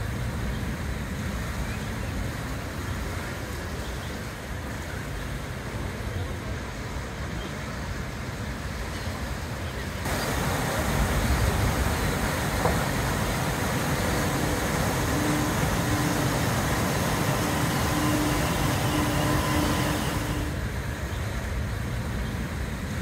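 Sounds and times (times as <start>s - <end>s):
water rushing down a chute: 1.2s - 23.0s.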